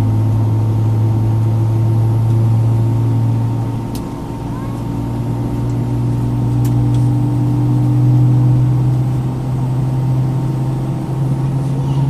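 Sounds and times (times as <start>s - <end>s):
airliner cabin droning hum: 0.0s - 12.0s.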